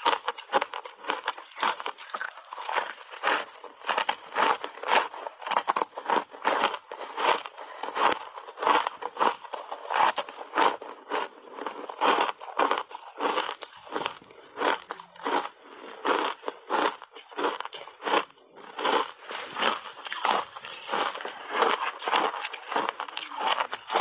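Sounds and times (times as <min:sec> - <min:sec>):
crunching ice chunks: 0:00.0 - 0:24.0.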